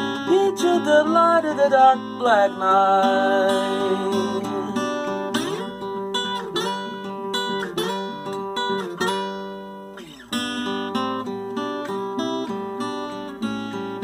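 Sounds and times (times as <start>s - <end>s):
acoustic guitar fingerpicking: 0.0s - 14.0s.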